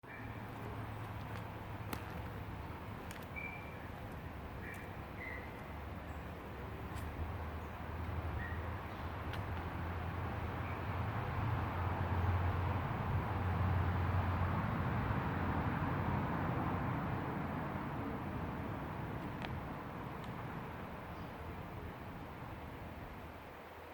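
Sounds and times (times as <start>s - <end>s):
river water flowing: 0.0s - 23.9s.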